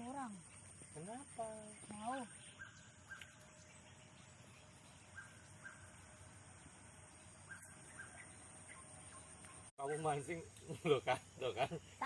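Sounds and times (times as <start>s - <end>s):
faint bird chirps: 0.1s - 10.0s.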